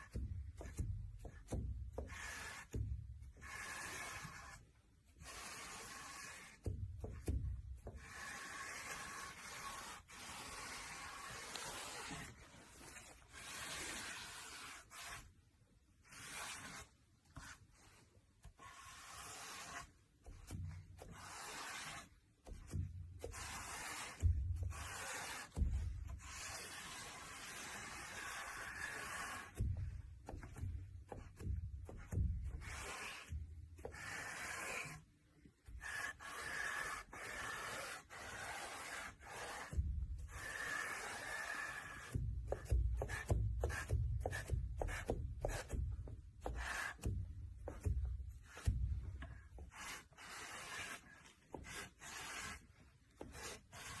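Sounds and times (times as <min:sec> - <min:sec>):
scraping strokes against a surface: 0:00.0 - 0:54.0.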